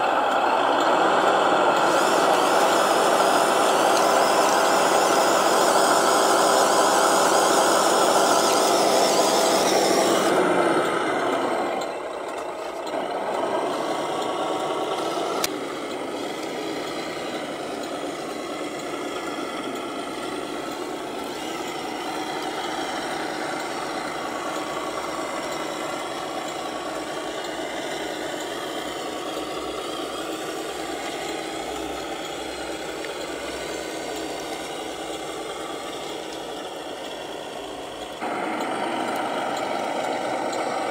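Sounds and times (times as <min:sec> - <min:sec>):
model truck motor running: 0:00.0 - 0:40.9.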